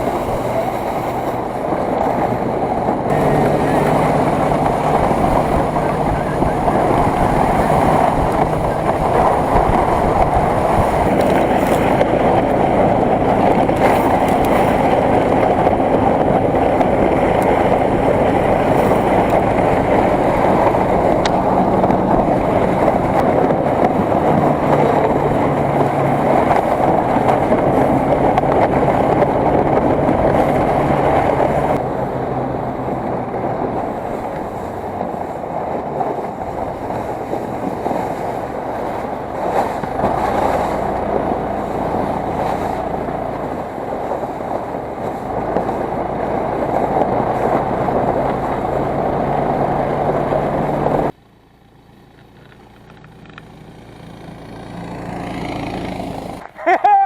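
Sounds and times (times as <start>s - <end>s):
road rushing noise: 0.0s - 56.9s
vehicle engine hum: 0.0s - 57.0s.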